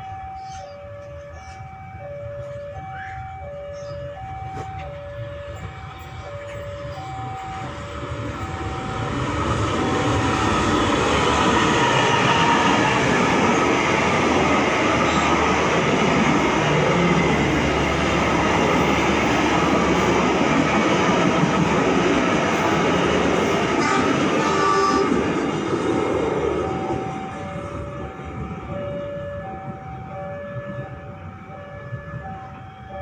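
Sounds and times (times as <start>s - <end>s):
level crossing warning tones: 0.0s - 22.9s, 23.6s - 33.0s
train wheels rumbling on rails: 3.8s - 33.0s.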